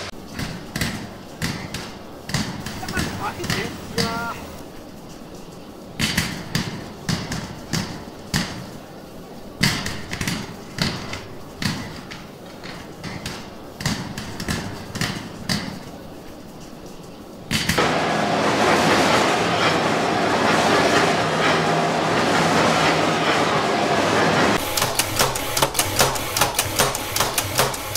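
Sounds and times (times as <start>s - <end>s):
conveyor line running: 0.0s - 27.9s.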